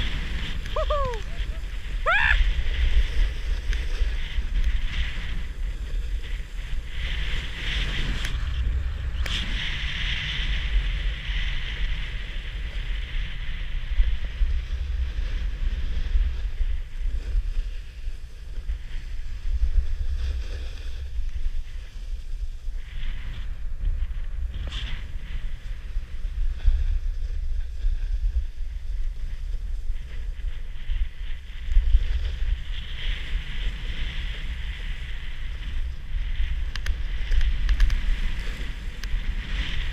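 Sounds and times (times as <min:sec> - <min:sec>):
skis sliding on packed snow: 0:00.0 - 0:39.9
wind buffeting microphone: 0:00.0 - 0:39.9.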